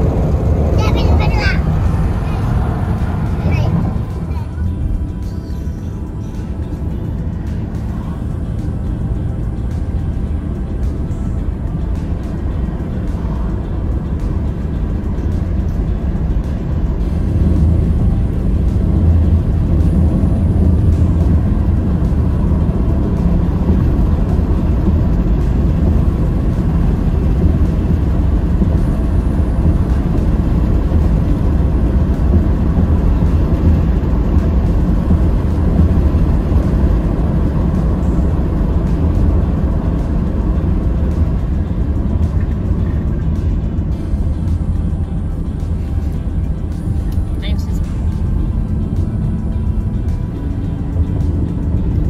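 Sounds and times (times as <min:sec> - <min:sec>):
car engine and tyre noise: 0:00.0 - 0:52.0.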